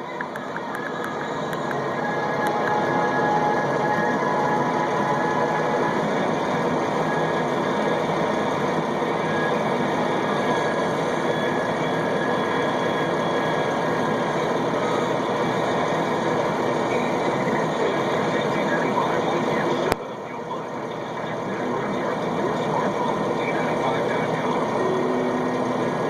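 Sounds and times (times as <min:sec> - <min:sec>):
bulldozer diesel engine under load: 0:00.0 - 0:26.0
faint steady whine: 0:00.0 - 0:26.0.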